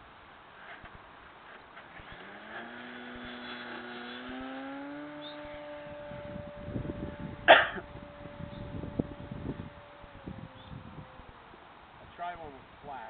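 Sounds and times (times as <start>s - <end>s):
low irregular rumbling: 0.0s - 13.0s
model airplane motor whine: 0.6s - 12.7s.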